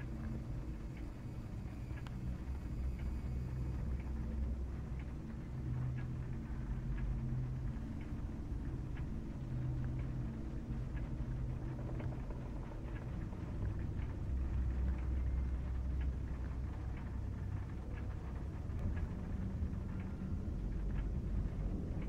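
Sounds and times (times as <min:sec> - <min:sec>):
faint irregular clicks: 0:00.0 - 0:22.0
low droning rumble: 0:00.0 - 0:22.0.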